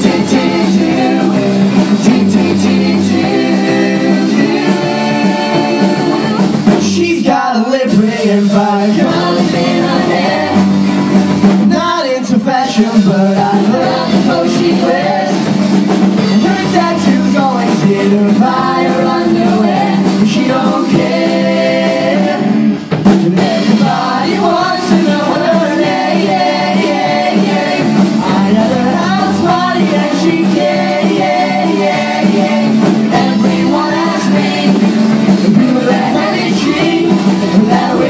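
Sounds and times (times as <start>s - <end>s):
band with drums: 0.0s - 38.0s
several people singing together: 0.0s - 38.0s.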